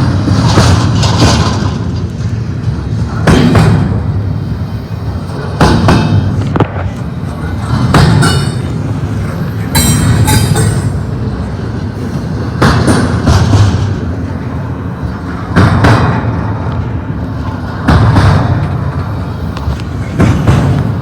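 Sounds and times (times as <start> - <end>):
freight train rumbling: 0.0 - 21.0
train wheels clunking: 0.0 - 21.0.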